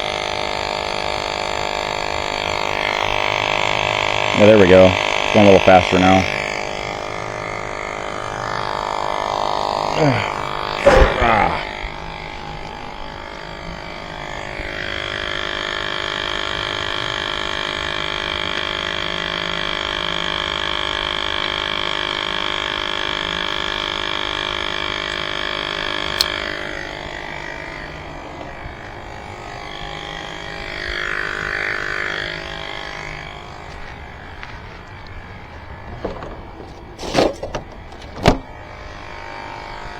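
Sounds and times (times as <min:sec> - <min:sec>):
hub motor whine: 0:00.0 - 0:39.9.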